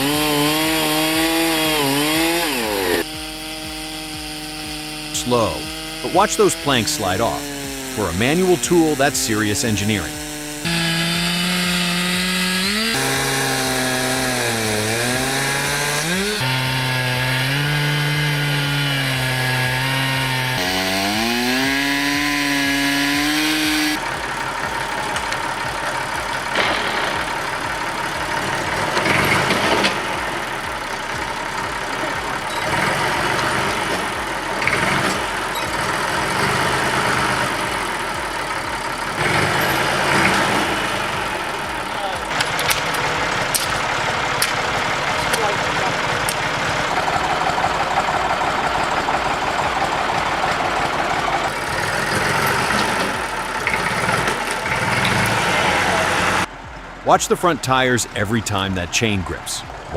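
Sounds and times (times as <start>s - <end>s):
chainsaw engine milling: 0.0s - 56.8s
rough noisy machine: 0.0s - 59.9s.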